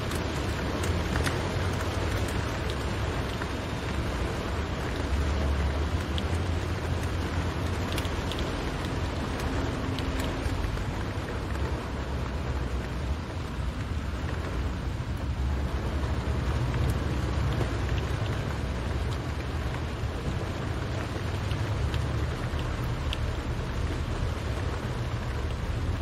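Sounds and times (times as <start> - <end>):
engine and tyres rumbling: 0.0 - 26.0
rain on a car roof: 0.0 - 26.0.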